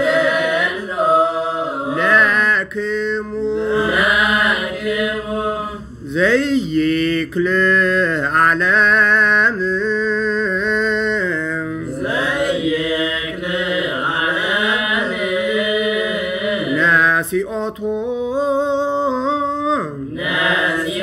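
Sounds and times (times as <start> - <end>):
person chanting a hymn: 0.0 - 21.0.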